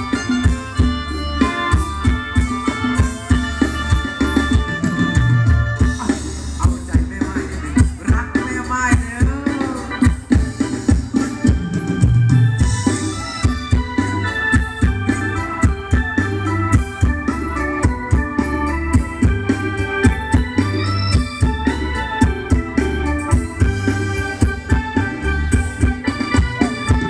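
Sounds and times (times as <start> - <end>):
deep bass line: 0.0 - 27.0
organ-like lead melody: 0.0 - 27.0
steady drum beat: 0.0 - 27.0.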